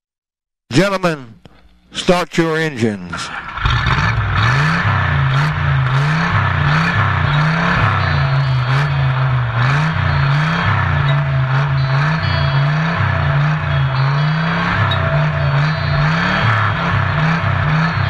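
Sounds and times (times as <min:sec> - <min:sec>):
race car engines revving: 0:03.1 - 0:18.0.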